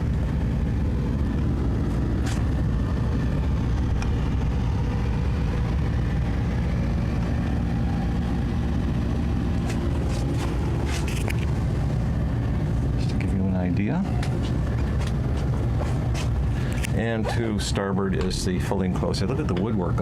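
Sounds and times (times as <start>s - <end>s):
air conditioner humming: 0.0s - 20.0s.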